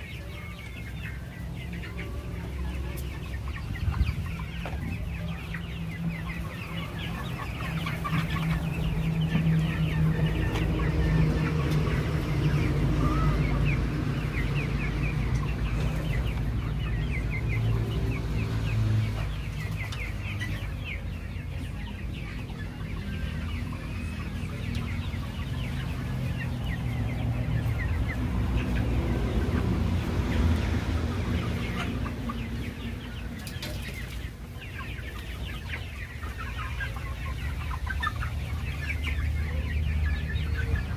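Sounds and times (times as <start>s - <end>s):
chicks peeping and clucking: 0.0s - 40.9s.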